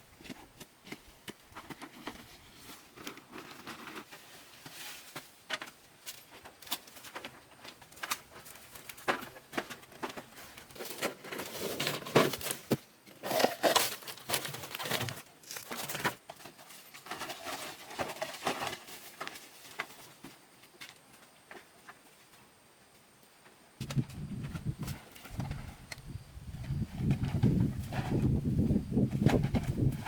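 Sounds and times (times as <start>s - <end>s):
crinkling and rustling: 0.2s - 22.4s, 23.4s - 30.0s.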